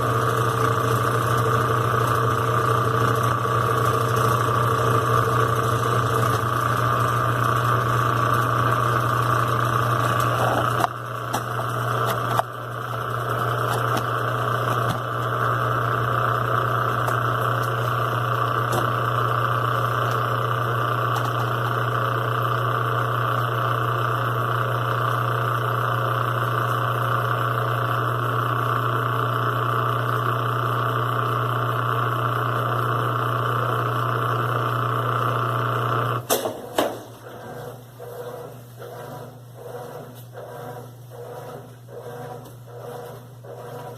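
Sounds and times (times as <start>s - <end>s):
washing machine motor hum: 0.0s - 43.9s.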